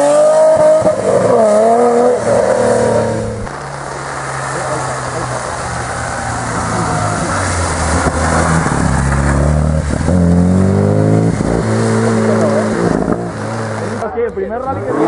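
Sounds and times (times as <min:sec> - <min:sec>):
car engine revving hard: 0:00.0 - 0:15.0
hiss from wet road: 0:00.1 - 0:14.1.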